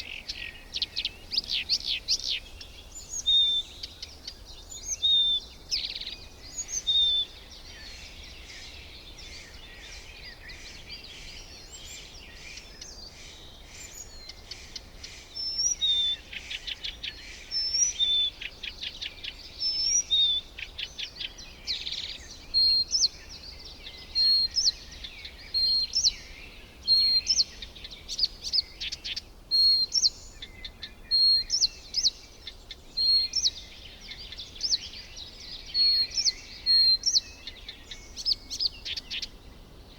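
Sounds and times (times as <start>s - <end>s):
background birdsong hiss: 0.0s - 39.9s
birds calling and chirping: 0.0s - 39.9s.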